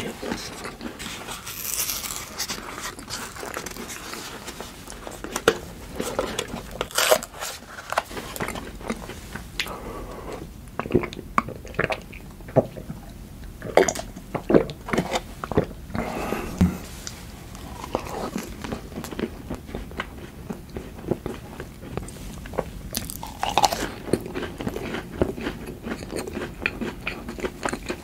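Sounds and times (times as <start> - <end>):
crunchy snacks being chewed: 0.1 - 15.7, 16.9 - 28.0.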